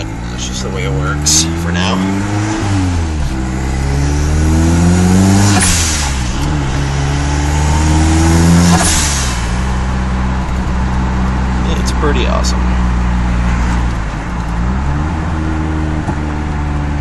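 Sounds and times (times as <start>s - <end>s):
engine accelerating: 0.0s - 17.0s.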